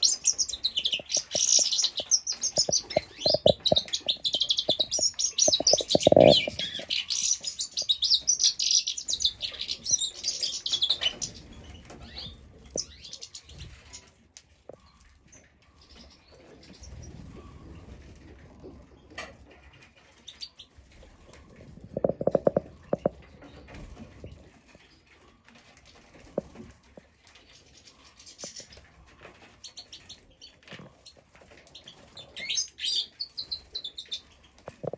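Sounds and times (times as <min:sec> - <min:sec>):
young birds chirping: 0:00.0 - 0:34.9.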